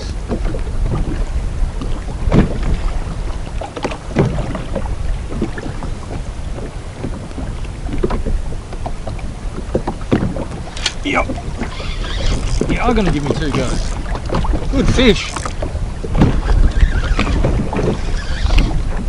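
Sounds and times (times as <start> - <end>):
splashes against hull: 0.0 - 19.0
wind buffeting microphone: 0.0 - 19.0.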